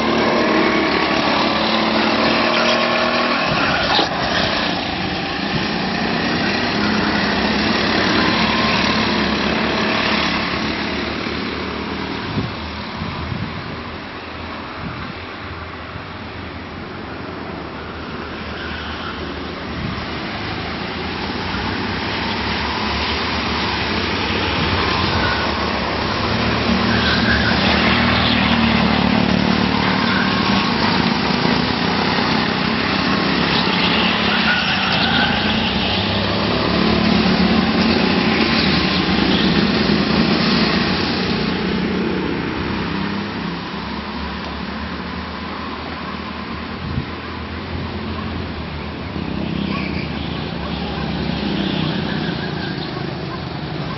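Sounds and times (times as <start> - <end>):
go-kart engines running: 0.0 - 13.7, 19.2 - 53.9.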